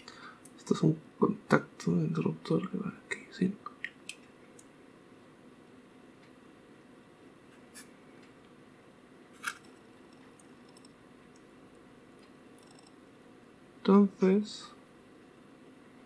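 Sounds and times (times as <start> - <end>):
quiet room hum: 0.0 - 16.0.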